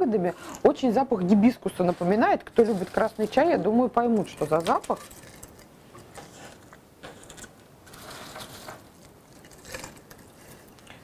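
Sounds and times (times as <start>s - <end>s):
dry potpourri rustling and clicking: 0.5s - 11.0s.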